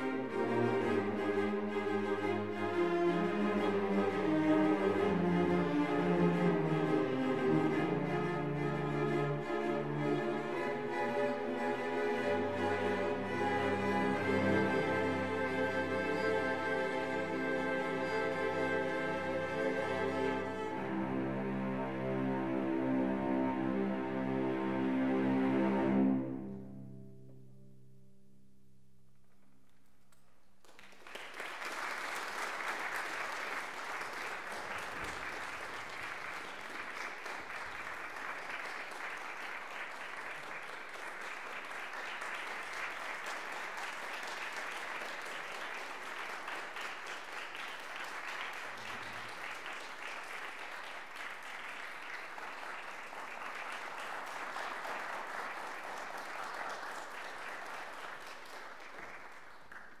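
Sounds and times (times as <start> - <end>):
audience applause: 0.0 - 21.3, 30.6 - 60.0.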